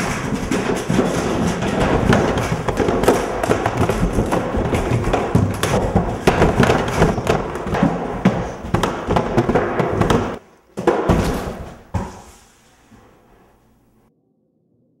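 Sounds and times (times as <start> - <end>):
person falling down stairs: 0.0 - 13.2.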